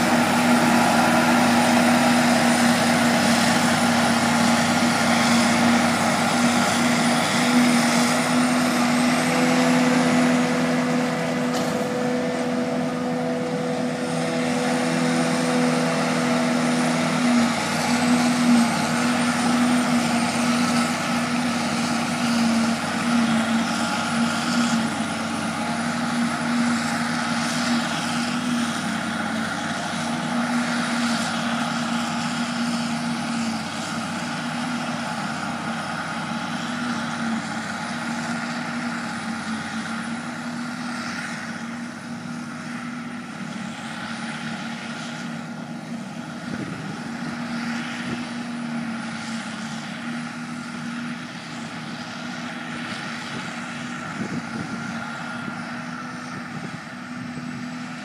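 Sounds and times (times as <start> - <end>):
harvester engine drone: 0.0 - 58.0
high machine whine: 0.0 - 58.0.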